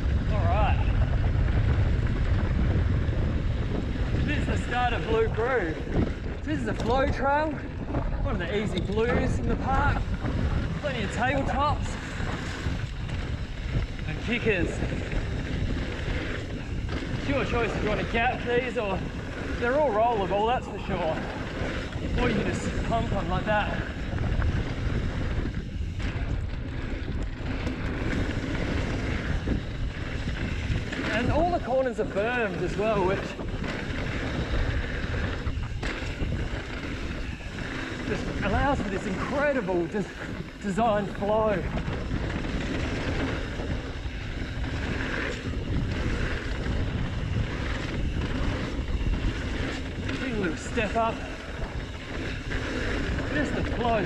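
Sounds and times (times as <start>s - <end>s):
bike tyres rolling on dirt: 0.0s - 54.0s
wind buffeting microphone: 0.0s - 54.0s.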